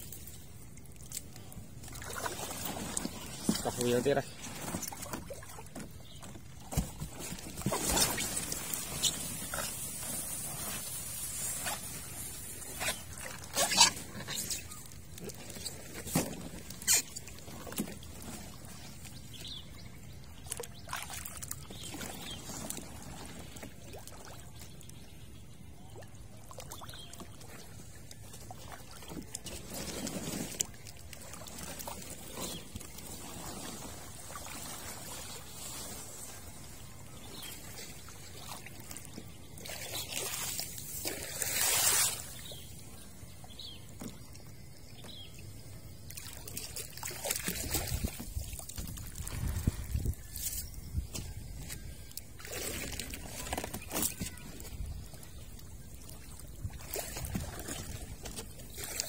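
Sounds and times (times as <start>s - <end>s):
water pouring and trickling: 0.0s - 24.9s, 25.8s - 42.6s, 45.7s - 59.0s.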